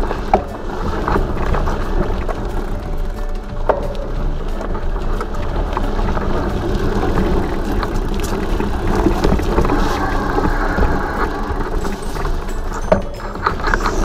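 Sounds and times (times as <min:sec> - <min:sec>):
bike clicks and rattles: 0:00.0 - 0:14.0
bike tyres rolling on dirt: 0:00.0 - 0:14.0.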